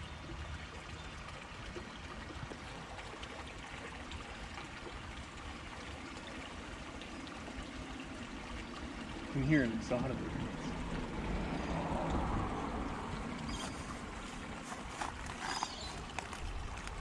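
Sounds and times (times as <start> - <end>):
creek running water: 0.0 - 17.0.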